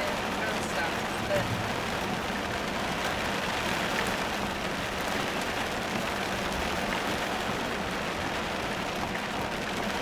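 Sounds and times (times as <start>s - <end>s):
heavy rain on a car: 0.0s - 10.0s.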